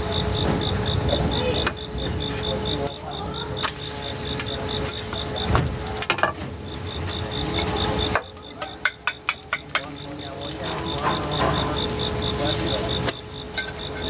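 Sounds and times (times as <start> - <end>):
food sizzling with stirring: 0.0 - 14.0
rapid high-pitched beeping: 0.0 - 14.0.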